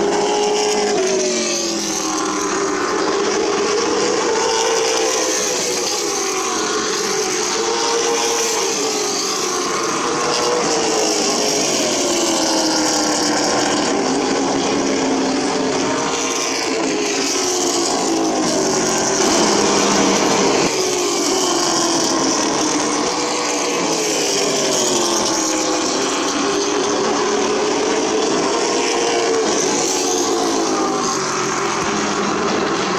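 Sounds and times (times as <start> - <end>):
race car engines at full throttle: 0.0 - 32.9.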